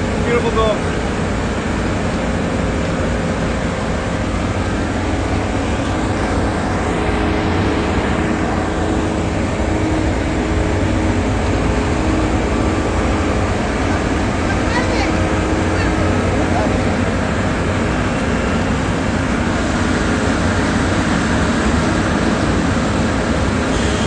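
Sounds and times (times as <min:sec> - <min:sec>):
city street traffic: 0:00.0 - 0:24.0
vehicle engine running: 0:00.0 - 0:24.0.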